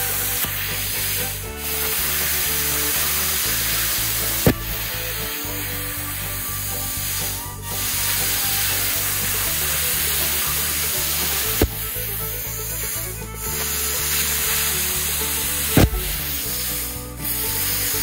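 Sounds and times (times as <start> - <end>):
plasma cutter torch hissing: 0.0 - 18.0.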